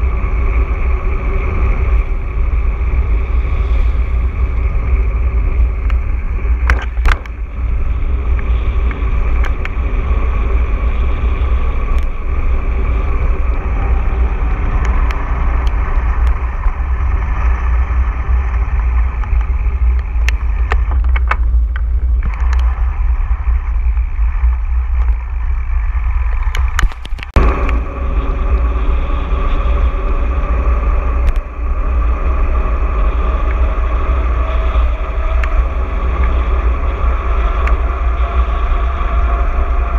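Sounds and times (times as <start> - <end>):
bike rattle and tyre noise: 0.0 - 39.9
wind rumble on microphone: 0.0 - 39.9.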